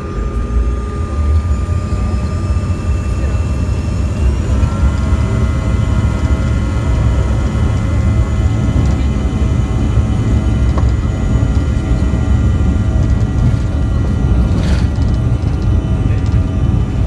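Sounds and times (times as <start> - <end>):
jet engines low rumble: 0.0 - 17.0
turbine whine: 0.0 - 17.0.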